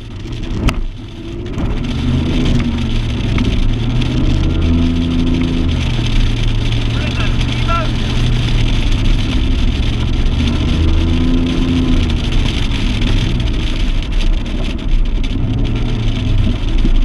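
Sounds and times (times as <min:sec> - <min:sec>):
rush of wind and water: 0:00.0 - 0:17.0.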